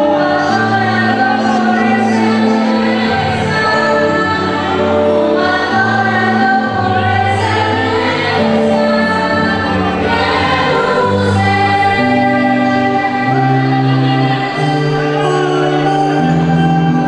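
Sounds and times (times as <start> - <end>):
choir singing gospel song: 0.0 - 17.0
instrumental accompaniment: 0.0 - 17.0
steady bass line: 0.0 - 17.0.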